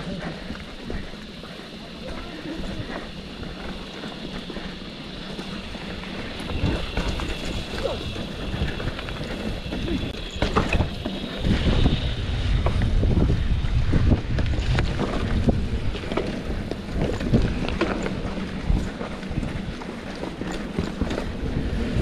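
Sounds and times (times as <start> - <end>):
mountain bike rattling on trail: 0.0 - 22.0
wind buffeting microphone: 2.0 - 22.0.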